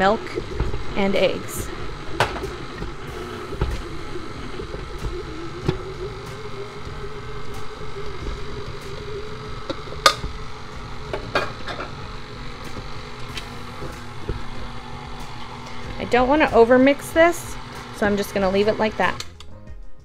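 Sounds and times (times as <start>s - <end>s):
stand mixer motor hum: 0.0s - 19.3s
mixer clicks: 2.0s - 19.5s.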